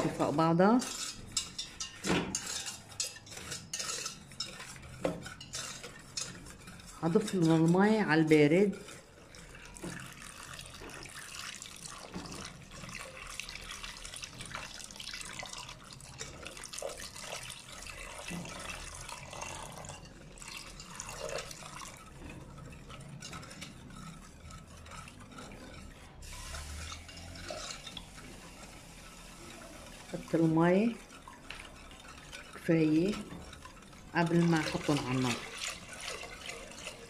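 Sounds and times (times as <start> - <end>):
whisk stirring liquid in pot: 0.0 - 37.0.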